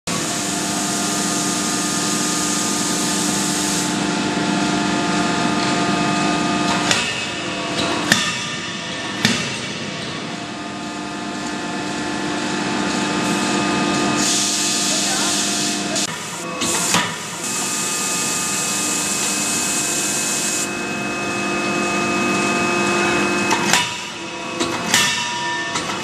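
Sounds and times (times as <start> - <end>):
machinery humming: 0.1 - 26.0.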